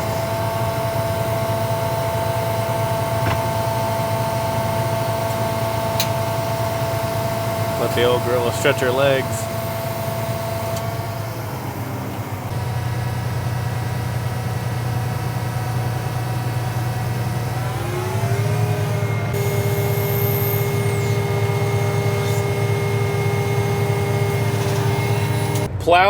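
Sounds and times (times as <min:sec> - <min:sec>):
tractor engine running and revving: 0:00.0 - 0:26.0.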